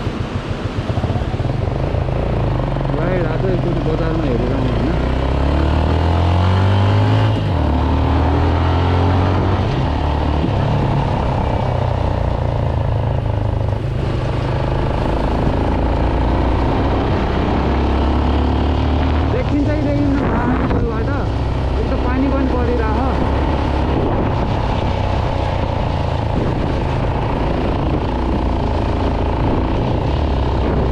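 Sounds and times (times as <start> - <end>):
motorcycle engine accelerating: 0.0 - 30.9
tyre noise on wet road: 0.0 - 30.9
wind rushing: 5.4 - 30.9.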